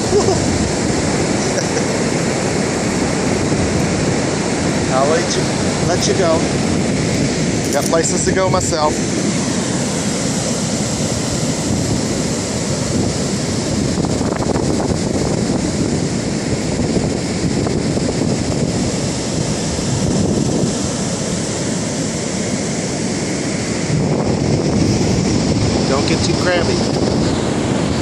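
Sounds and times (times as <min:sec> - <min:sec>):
surf: 0:00.0 - 0:28.0
wind: 0:00.0 - 0:28.0
wind buffeting microphone: 0:00.0 - 0:28.0.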